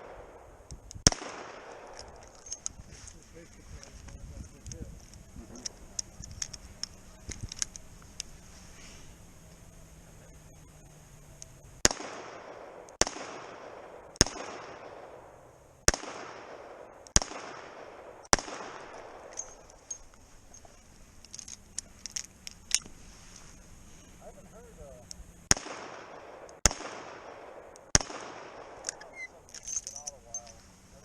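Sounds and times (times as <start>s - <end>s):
sharp clicks and pops: 0.0s - 8.4s, 11.3s - 23.5s, 25.0s - 30.6s.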